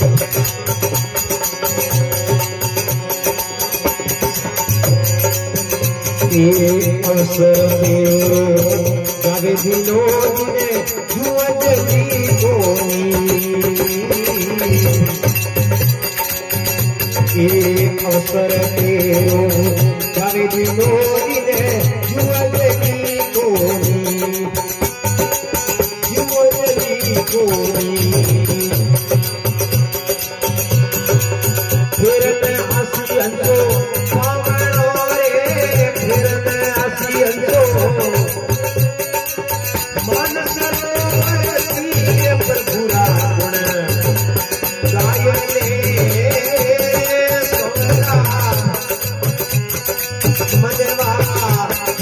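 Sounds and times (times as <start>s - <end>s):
dholak drum rhythm: 0.0s - 52.0s
hand percussion: 0.0s - 52.0s
harmonium: 0.0s - 52.0s
man singing: 0.0s - 52.0s.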